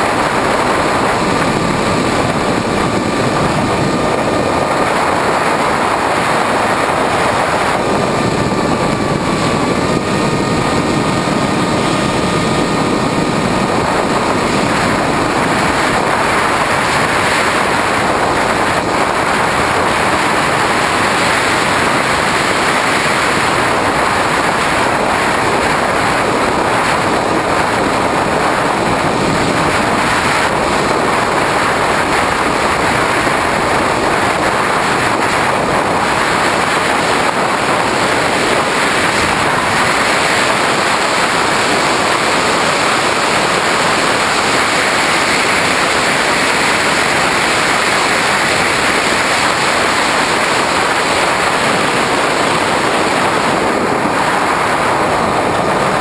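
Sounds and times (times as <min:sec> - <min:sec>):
electric motor and propeller: 0:00.0 - 0:56.0
rush of airflow: 0:00.0 - 0:56.0.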